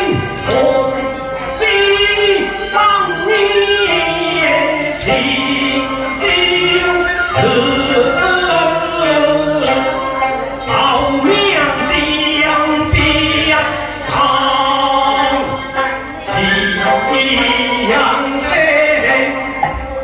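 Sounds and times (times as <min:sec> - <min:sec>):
sharp percussion strokes: 0:00.0 - 0:19.7
instrumental accompaniment: 0:00.0 - 0:20.0
opera singer: 0:00.0 - 0:20.0.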